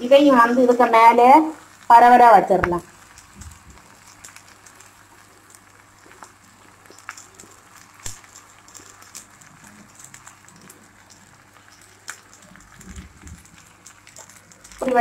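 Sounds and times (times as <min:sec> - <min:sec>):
food sizzling in oil: 0:00.0 - 0:15.0
oil popping: 0:00.9 - 0:15.0.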